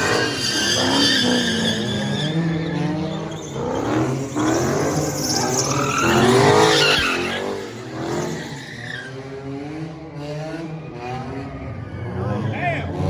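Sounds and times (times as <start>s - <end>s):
engine revving high: 0.0s - 13.0s
tyres skidding: 0.0s - 13.0s.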